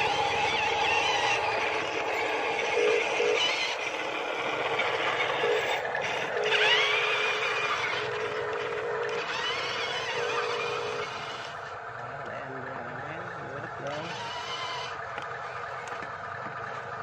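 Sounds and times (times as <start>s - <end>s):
rapid pulsing buzz: 0.0s - 17.0s
whir of small electric motors: 0.0s - 17.0s.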